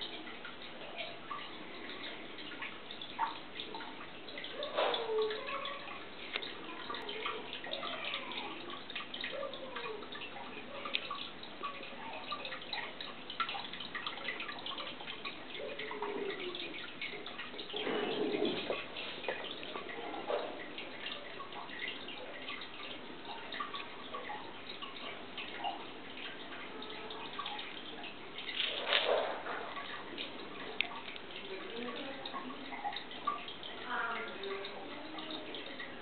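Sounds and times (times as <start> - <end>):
aquarium water bubbling: 0.0 - 36.0
water gurgles: 0.0 - 36.0.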